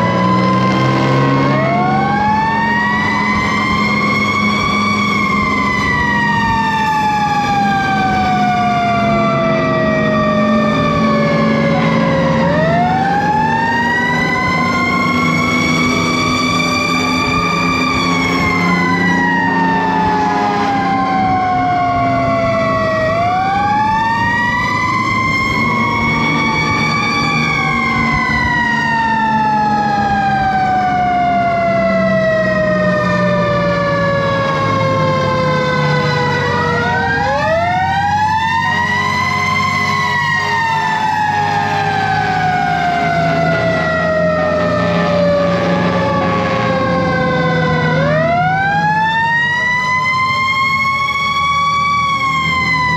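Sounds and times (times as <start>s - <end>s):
fire engine sirens wailing: 0.0s - 52.9s.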